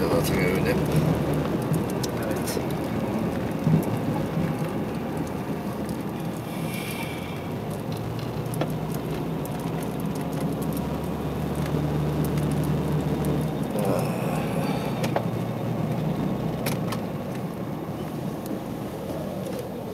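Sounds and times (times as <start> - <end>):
car engine and tyre noise: 0.0 - 19.9.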